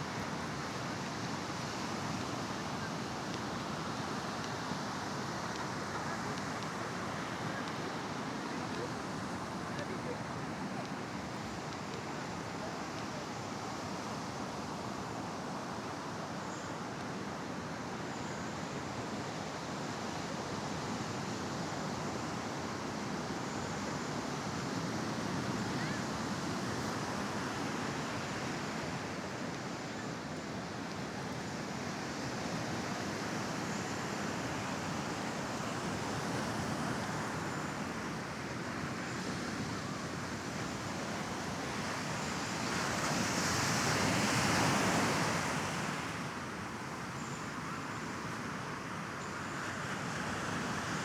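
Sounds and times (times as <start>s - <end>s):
waves washing onto sand: 0.0s - 51.0s.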